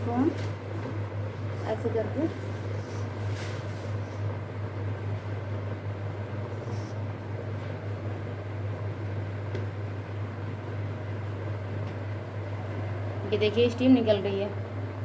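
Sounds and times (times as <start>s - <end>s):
steam vaporizer humming: 0.0s - 15.0s.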